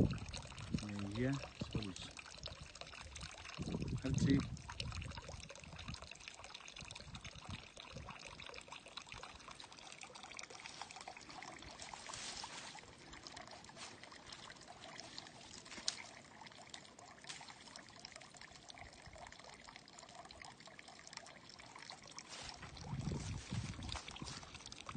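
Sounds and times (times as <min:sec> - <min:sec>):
water trickling into a trough: 0:00.0 - 0:24.9.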